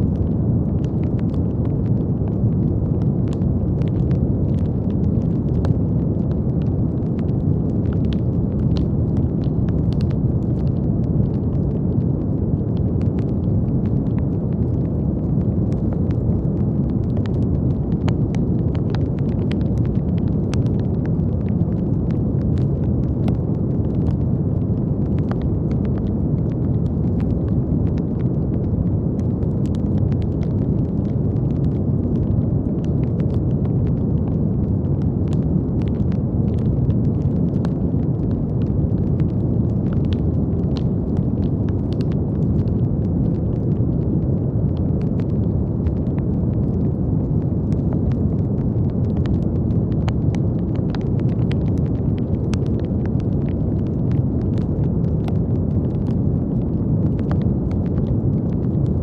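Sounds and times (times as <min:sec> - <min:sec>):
brown noise: 0:00.0 - 0:59.0
faint crackles and clicks: 0:00.0 - 0:59.0.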